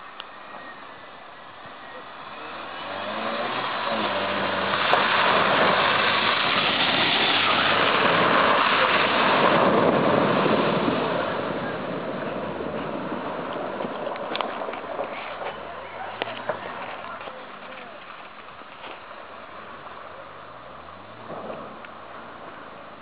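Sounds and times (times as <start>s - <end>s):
car engine pulling under load: 0.0s - 23.0s
water and mud splashing: 0.0s - 23.0s.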